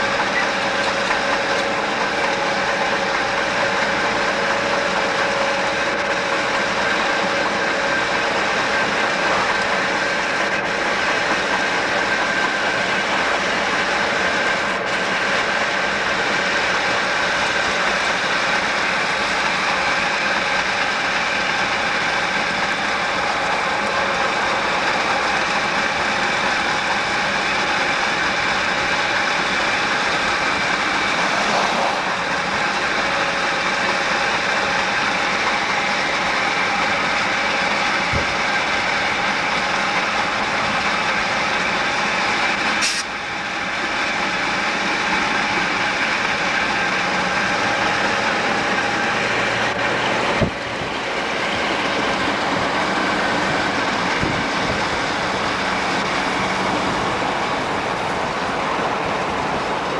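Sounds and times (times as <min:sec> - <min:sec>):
car road and wind noise: 0:00.0 - 0:59.9
diesel locomotive engines: 0:00.0 - 0:59.9.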